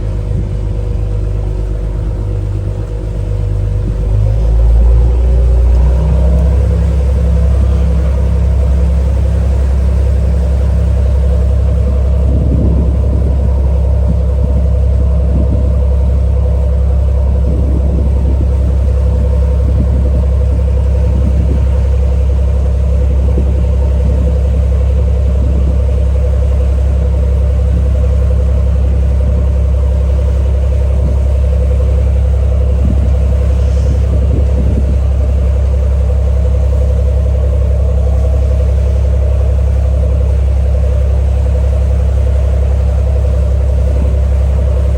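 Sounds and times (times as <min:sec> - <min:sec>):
ferry engine drone: 0:00.0 - 0:44.9.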